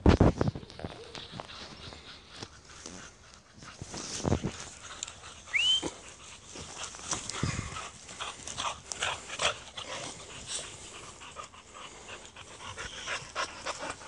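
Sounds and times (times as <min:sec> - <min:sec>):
dogs playing and barking: 0:00.4 - 0:14.0.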